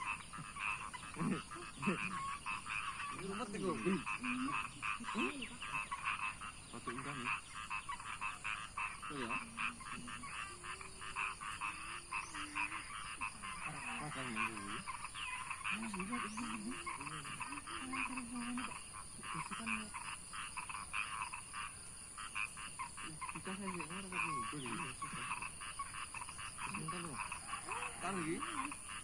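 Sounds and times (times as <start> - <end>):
chorus of frogs croaking: 0.0 - 29.0.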